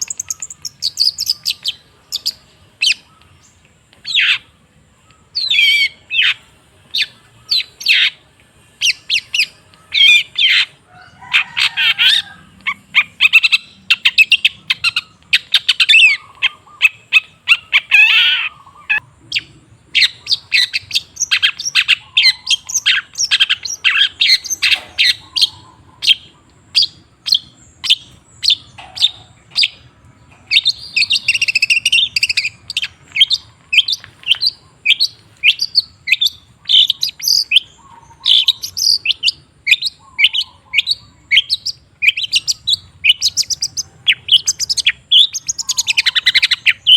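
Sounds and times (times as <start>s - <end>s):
shrike singing: 0.0s - 46.9s.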